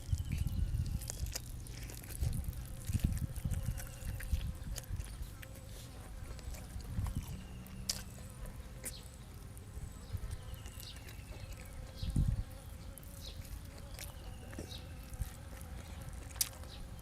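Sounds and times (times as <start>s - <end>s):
insect buzzing: 0.0s - 17.0s.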